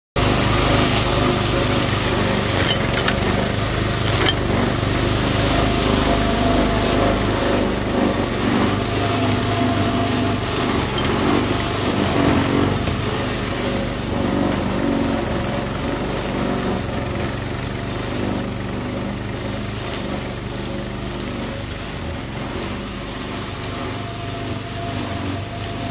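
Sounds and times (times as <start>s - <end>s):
brush cutter engine running: 0.2s - 25.9s.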